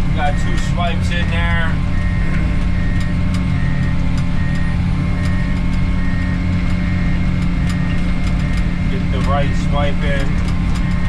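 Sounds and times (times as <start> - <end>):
backup alarm beeping: 0.0 - 11.0
bulldozer diesel engine running: 0.0 - 11.0.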